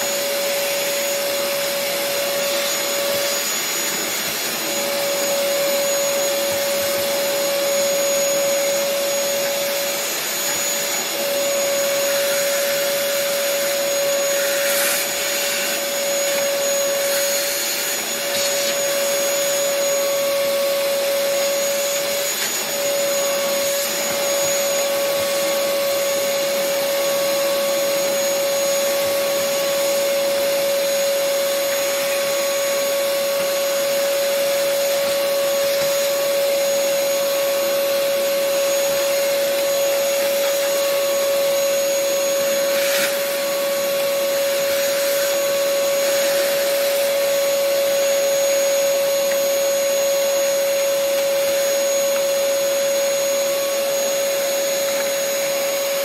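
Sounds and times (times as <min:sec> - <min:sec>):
vacuum cleaner whine: 0:00.0 - 0:56.0.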